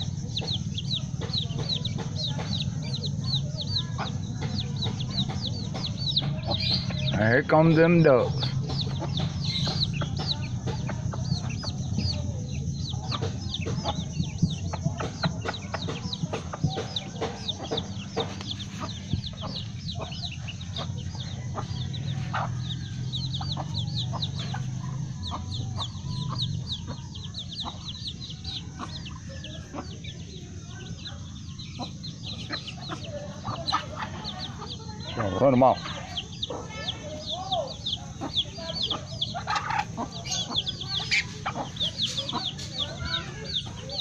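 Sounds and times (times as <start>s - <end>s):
chicks peeping: 0.0s - 44.0s.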